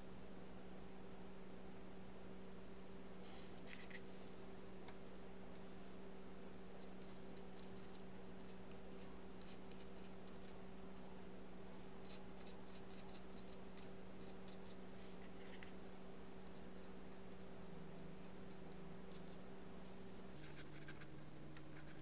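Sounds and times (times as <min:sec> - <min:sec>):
steady low hum: 0:00.0 - 0:22.0
paintbrush strokes on paper: 0:02.2 - 0:06.0, 0:06.8 - 0:22.0.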